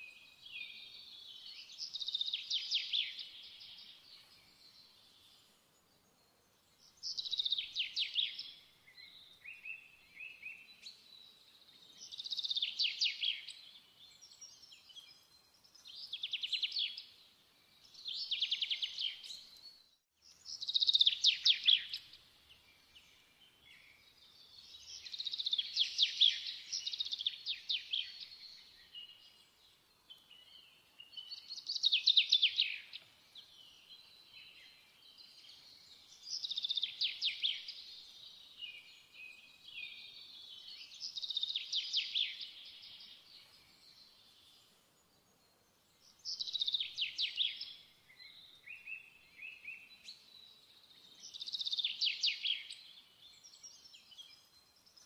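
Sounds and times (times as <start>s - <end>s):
quiet bird chirps: 0.0s - 55.0s.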